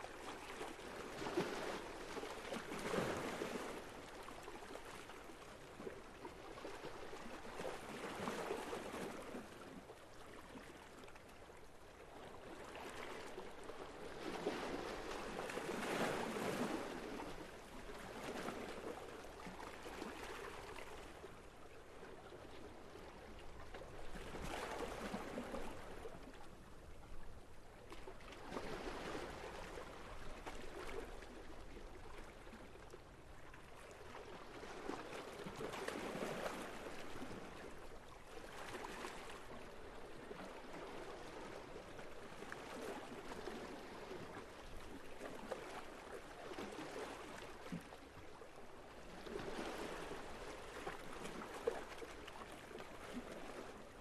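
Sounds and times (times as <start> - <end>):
sea water lapping: 0.0 - 54.0.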